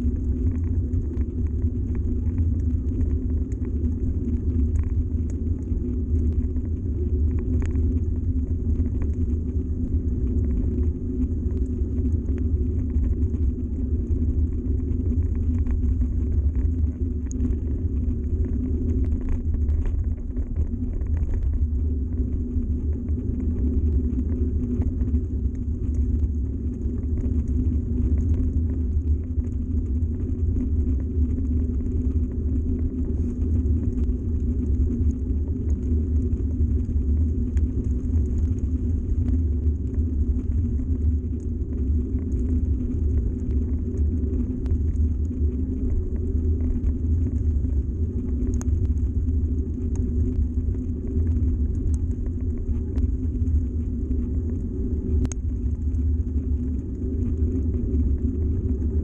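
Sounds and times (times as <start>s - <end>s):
faint ticks and rattles: 0.0s - 59.0s
wind on microphone: 0.0s - 59.0s.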